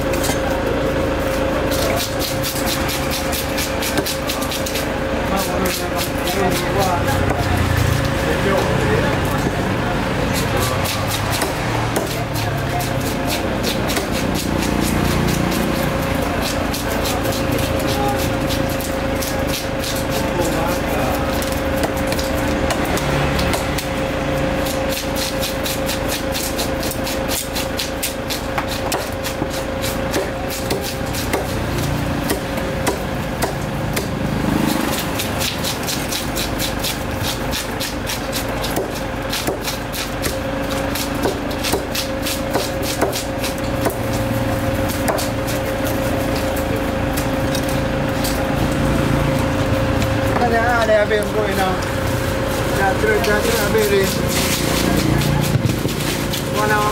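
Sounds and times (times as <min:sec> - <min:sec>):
market din: 0:00.0 - 0:56.9
cleaver chopping on wooden block: 0:01.7 - 0:07.6, 0:10.3 - 0:46.6, 0:53.3 - 0:56.9.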